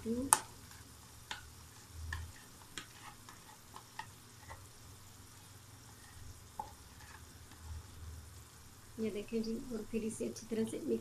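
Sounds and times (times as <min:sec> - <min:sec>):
masala frying in oil: 0:00.0 - 0:11.0.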